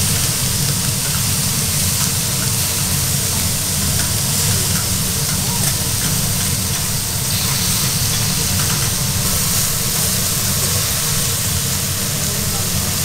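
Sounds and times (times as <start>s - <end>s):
steak sizzling on griddle: 0.0s - 13.0s.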